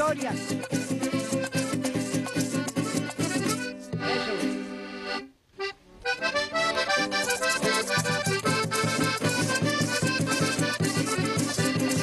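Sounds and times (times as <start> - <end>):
band accompaniment: 0.0 - 5.2, 6.1 - 12.0
button accordion playing: 0.0 - 12.0.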